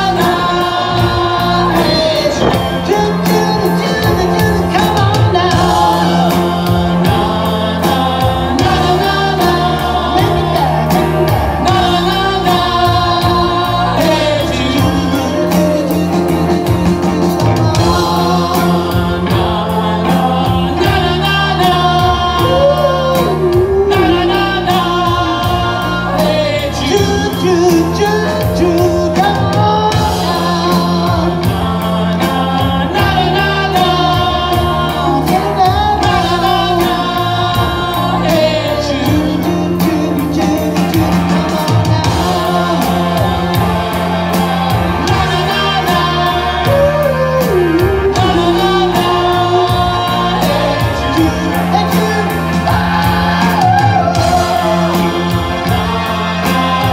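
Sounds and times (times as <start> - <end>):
person singing: 0.0 - 56.9
rock band playing: 0.0 - 56.9.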